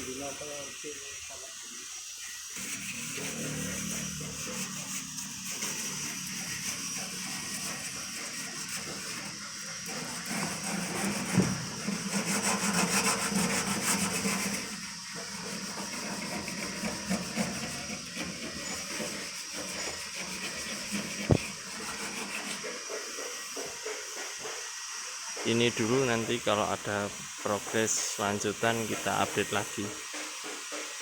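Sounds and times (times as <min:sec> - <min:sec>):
sanding sheet metal: 0:02.6 - 0:31.0.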